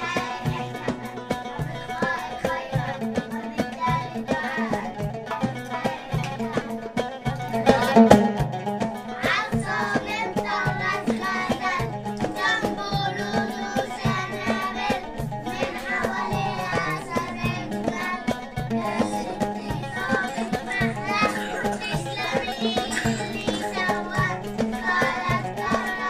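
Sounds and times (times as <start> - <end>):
children singing in unison: 0.0 - 8.2, 8.9 - 26.0
instrumental accompaniment: 0.0 - 26.0.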